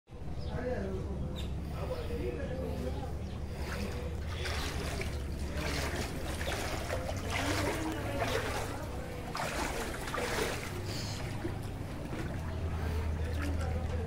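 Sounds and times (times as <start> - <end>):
water sloshing and splashing: 1.5 - 14.0.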